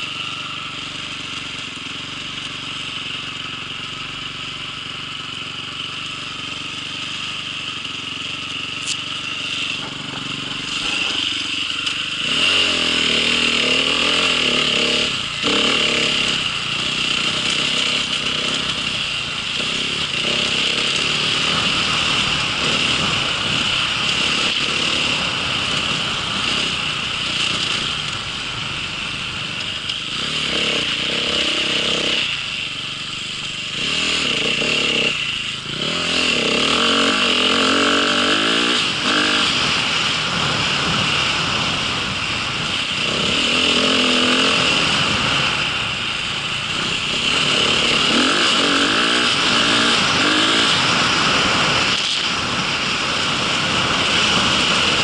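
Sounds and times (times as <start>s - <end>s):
vehicle engine idling and revving: 0.0s - 55.0s.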